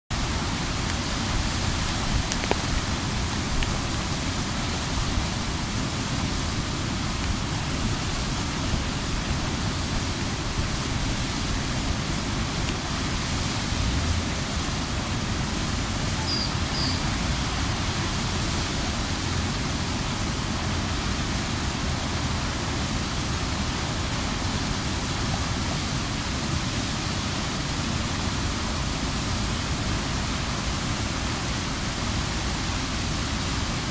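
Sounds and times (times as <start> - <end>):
water rushing over weir: 0.1 - 33.9.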